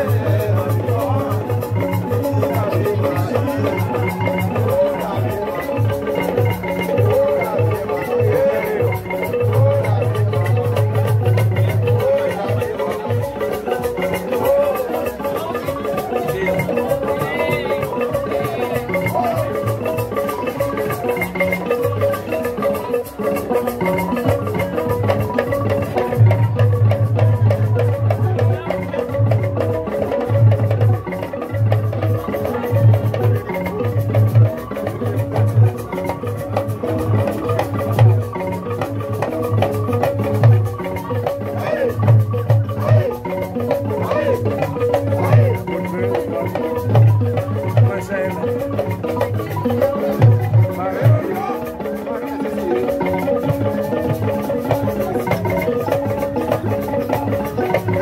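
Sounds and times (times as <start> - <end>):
hand drums fast beat: 0.0 - 58.0
other percussion: 0.0 - 58.0.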